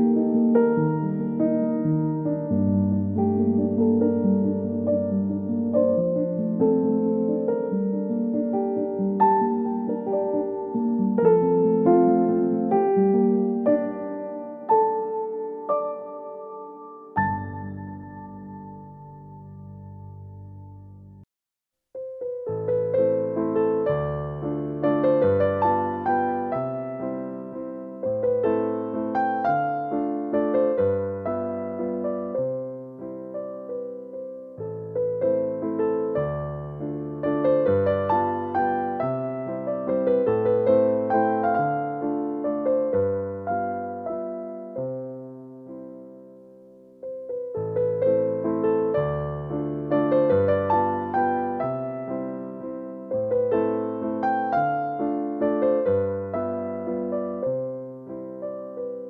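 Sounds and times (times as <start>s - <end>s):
slow gentle piano music: 0.0s - 21.3s, 21.9s - 59.0s.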